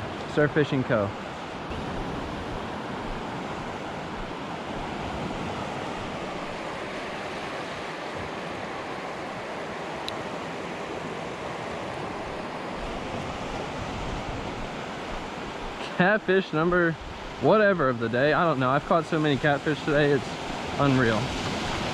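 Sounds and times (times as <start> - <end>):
ocean surf breaking: 0.0 - 21.9.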